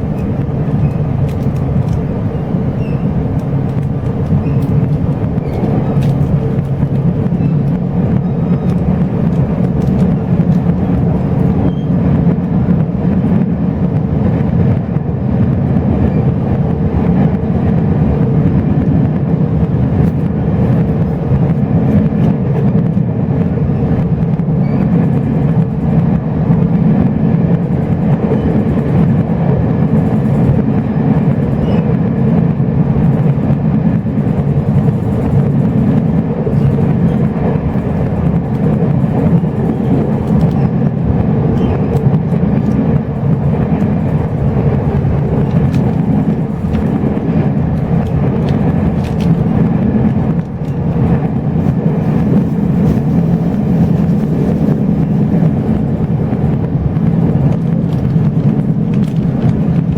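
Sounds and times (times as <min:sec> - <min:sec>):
train carriage rumble: 0:00.0 - 0:59.9.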